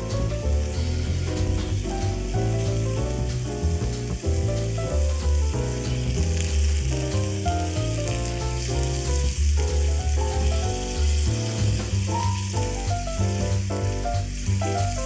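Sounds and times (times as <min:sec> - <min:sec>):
background music with bass: 0:00.0 - 0:15.0
offal sizzling in a skillet: 0:00.0 - 0:15.0.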